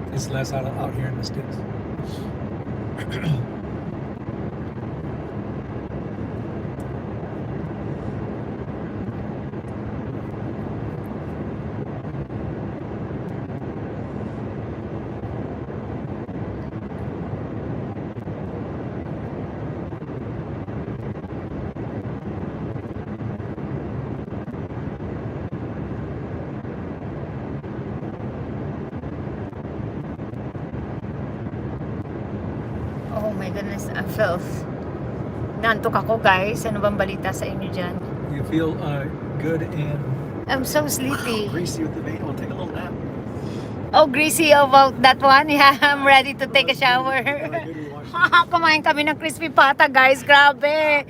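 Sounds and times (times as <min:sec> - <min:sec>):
car cabin road noise: 0:00.0 - 0:25.7, 0:27.6 - 0:51.0
faint steady hum: 0:00.0 - 0:51.0.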